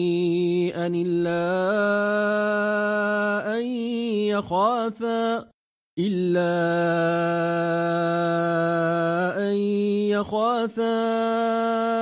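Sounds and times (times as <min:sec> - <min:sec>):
man chanting recitation: 0:00.0 - 0:12.0.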